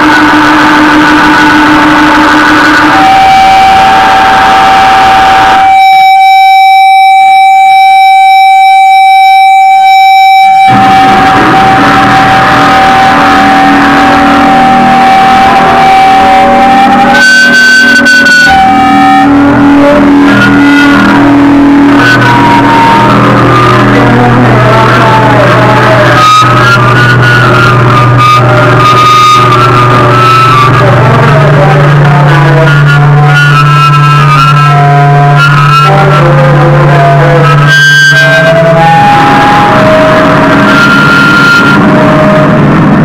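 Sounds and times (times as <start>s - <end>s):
high held guitar tone: 0.0s - 43.0s
loud electric guitar and band: 0.0s - 43.0s.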